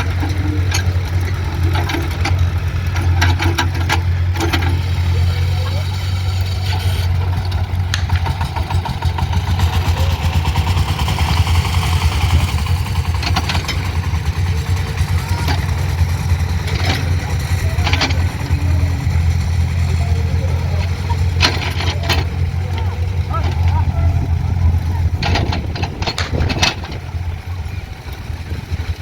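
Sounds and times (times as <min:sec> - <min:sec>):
digger diesel engine running: 0:00.0 - 0:29.0.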